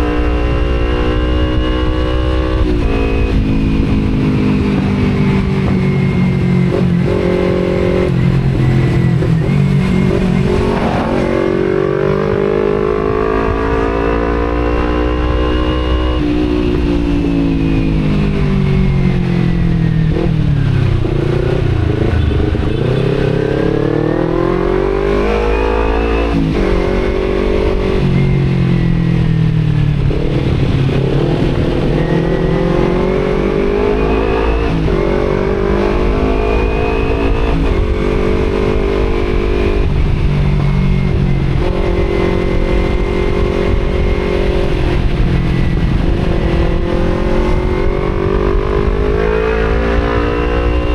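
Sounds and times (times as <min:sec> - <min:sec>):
motorcycle engine revving: 0:00.0 - 0:50.9
wind rumbling on microphone: 0:00.0 - 0:50.9.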